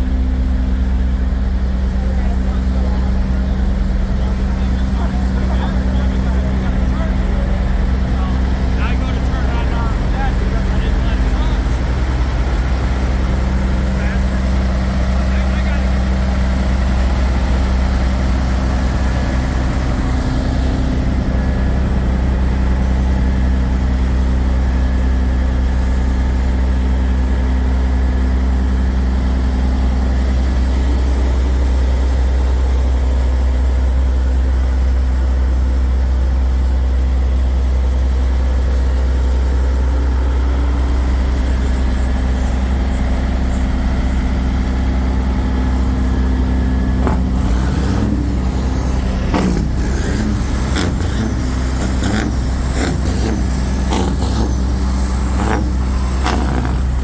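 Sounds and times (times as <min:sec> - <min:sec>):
truck engines idling: 0:00.0 - 0:57.0.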